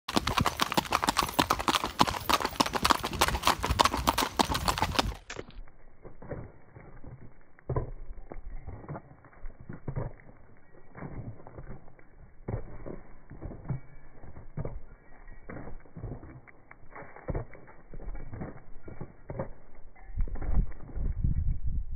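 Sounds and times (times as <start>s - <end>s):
horse hooves clip-clopping on pavement: 0.1s - 21.9s.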